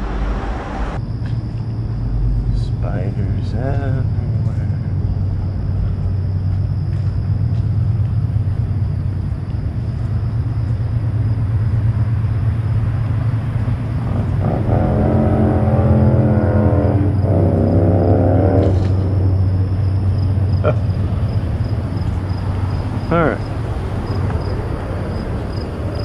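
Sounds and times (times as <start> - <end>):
droning pitched sound: 0.0 - 6.3, 10.2 - 26.0
traffic rumble: 0.0 - 26.0.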